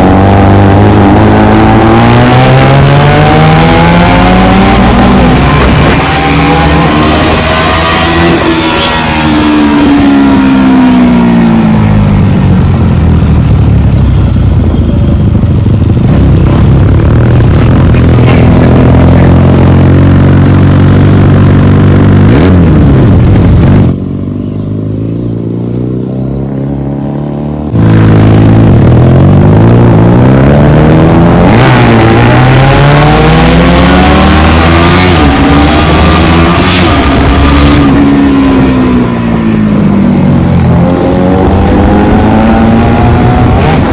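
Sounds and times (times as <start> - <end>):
motorcycle accelerating: 0.0 - 43.9.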